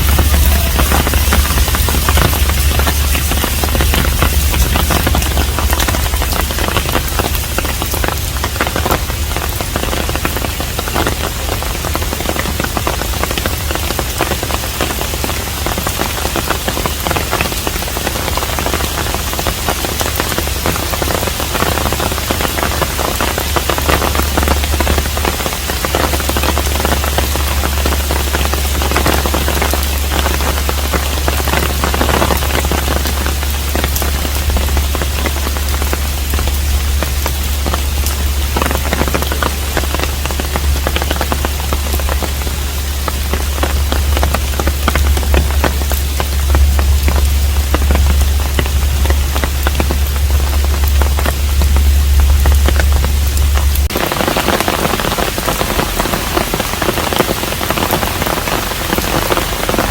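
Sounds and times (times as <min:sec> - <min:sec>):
low rumble: 0:00.0 - 0:59.9
rain patter: 0:00.0 - 0:59.9.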